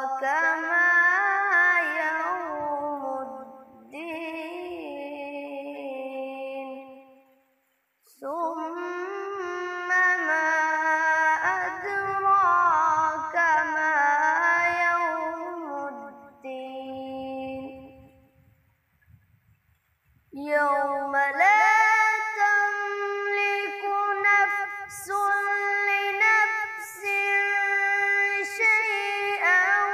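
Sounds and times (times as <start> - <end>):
boy chanting melodically: 0.0 - 7.2, 8.2 - 18.2, 20.4 - 29.9.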